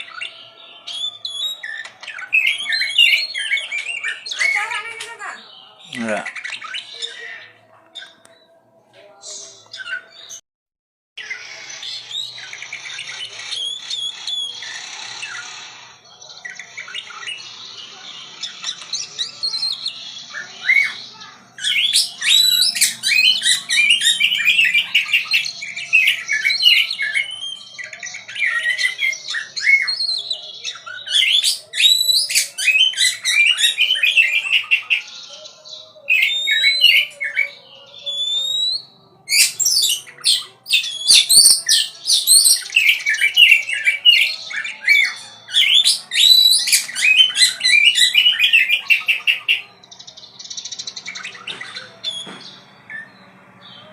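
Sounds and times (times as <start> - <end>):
songbird singing: 0.0 - 10.4, 15.4 - 53.9.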